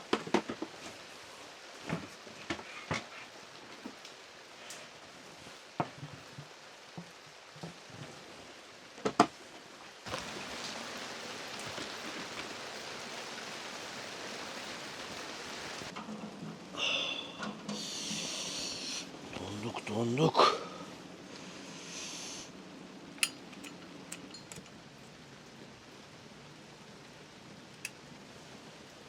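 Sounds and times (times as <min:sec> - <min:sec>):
rain taps: 0:00.0 - 0:01.1, 0:01.7 - 0:21.6, 0:22.5 - 0:26.0, 0:26.7 - 0:28.6
heavy rain hissing: 0:00.0 - 0:29.0.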